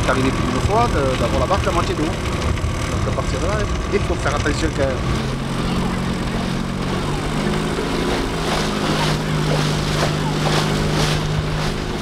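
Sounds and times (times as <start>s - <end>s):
outboard motor humming: 0.0s - 12.0s
water splashing along hull: 0.0s - 12.0s.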